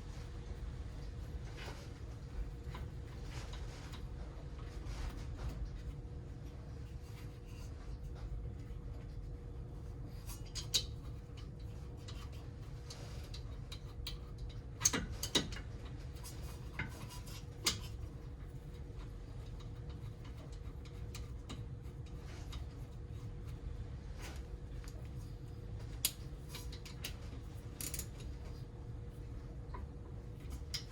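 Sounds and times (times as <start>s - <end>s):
low background hum: 0.0s - 30.9s.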